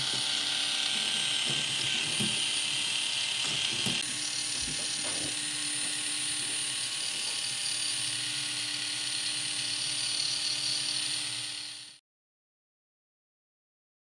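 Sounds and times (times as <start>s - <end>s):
toy motor and gears whirring: 0.0s - 12.0s.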